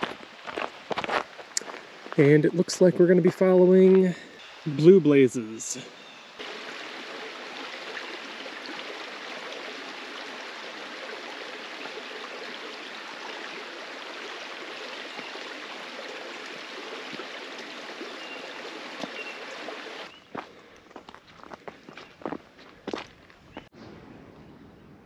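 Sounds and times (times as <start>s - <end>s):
stream flowing: 0.0s - 20.2s.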